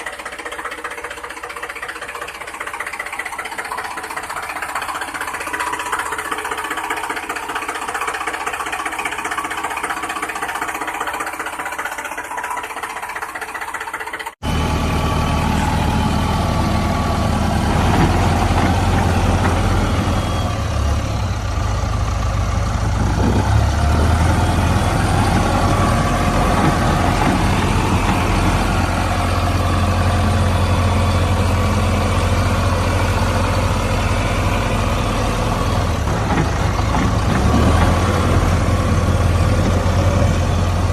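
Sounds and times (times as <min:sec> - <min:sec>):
deep engine running: 0:00.0 - 0:40.9.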